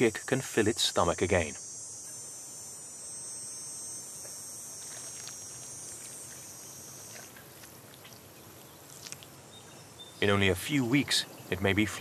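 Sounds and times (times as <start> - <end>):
faint outdoor hiss: 0.0 - 12.0
high-pitched insect chirring: 0.0 - 12.0.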